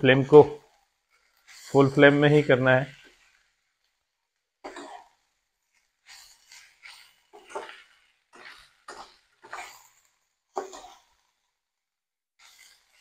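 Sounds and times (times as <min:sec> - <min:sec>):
spatula scraping a wok: 0:00.0 - 0:11.7, 0:12.4 - 0:13.0.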